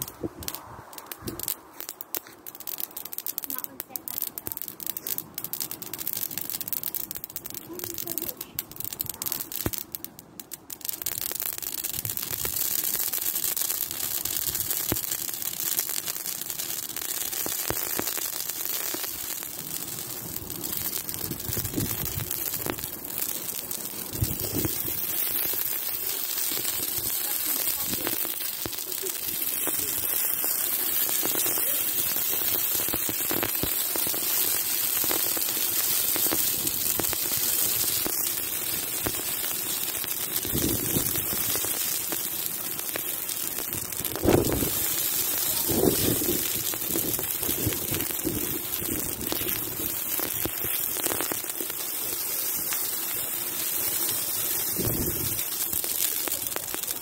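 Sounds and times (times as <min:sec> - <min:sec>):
tree burning crackle: 0:00.0 - 0:57.0.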